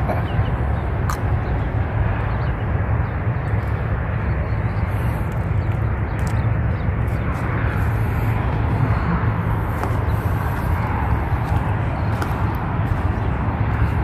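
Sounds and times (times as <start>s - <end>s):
low fluttering rumble: 0.0s - 14.0s.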